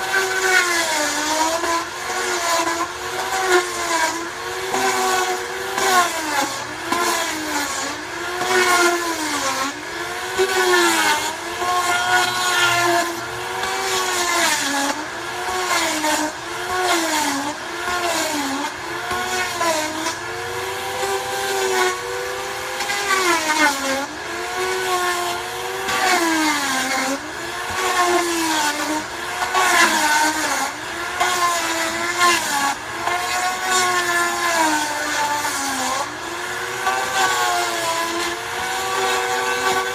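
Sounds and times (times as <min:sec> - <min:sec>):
paint remover motor whine: 0:00.0 - 0:39.9.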